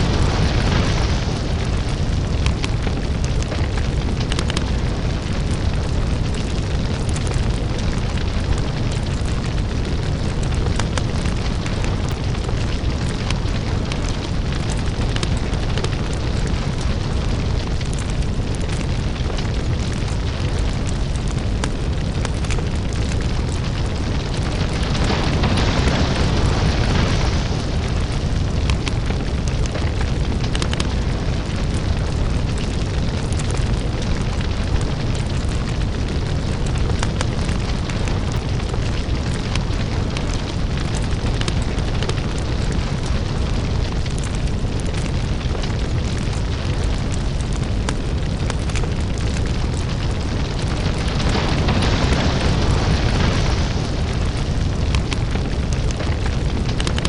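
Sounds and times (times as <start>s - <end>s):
crackles and pops: 0.0s - 57.0s
deep rumble of lava: 0.0s - 57.0s.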